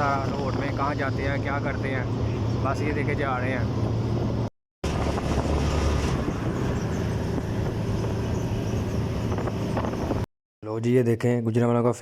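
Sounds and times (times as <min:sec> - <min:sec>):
road and wind noise: 0:00.0 - 0:10.3
vehicle engine drone: 0:00.0 - 0:10.3.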